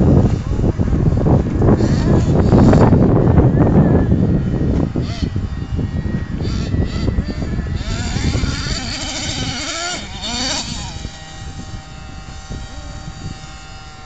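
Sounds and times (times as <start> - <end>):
small model engine revving: 0.0 - 14.0.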